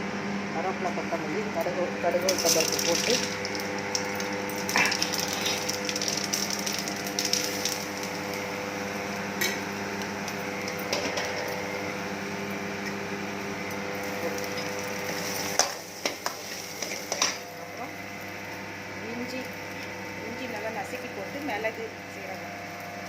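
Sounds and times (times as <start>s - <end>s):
steady motor hum: 0.0s - 23.0s
seeds crackling in hot oil: 2.2s - 12.8s, 13.5s - 23.0s.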